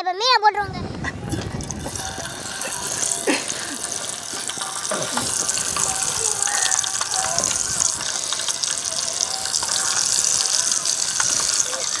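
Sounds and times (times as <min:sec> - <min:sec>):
fish sizzling in hot oil: 0:01.2 - 0:12.0.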